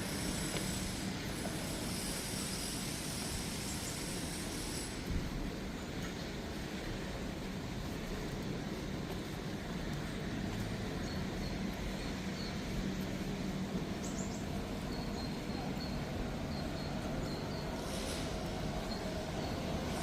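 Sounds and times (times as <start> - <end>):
low traffic hum: 0.0 - 20.0.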